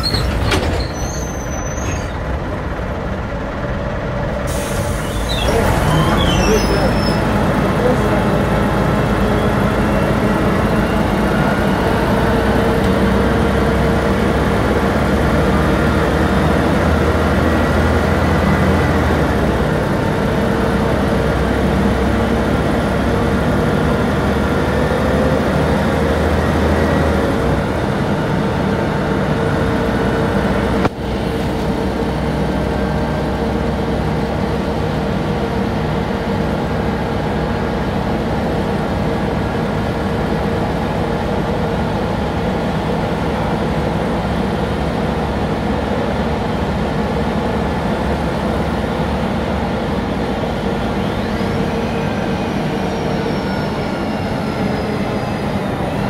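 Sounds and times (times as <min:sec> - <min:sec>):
bus diesel engine drone: 0:00.0 - 0:56.0
steady engine whine: 0:00.0 - 0:56.0.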